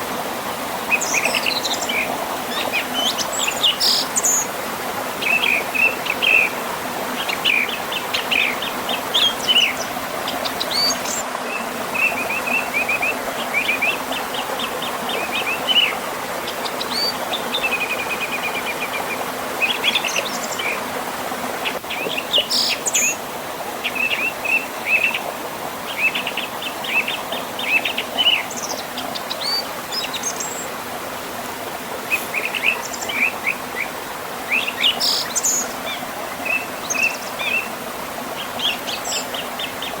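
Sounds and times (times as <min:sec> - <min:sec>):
river and waterfall rushing: 0:00.0 - 0:40.0
songbirds chirping: 0:00.8 - 0:30.8, 0:32.1 - 0:40.0.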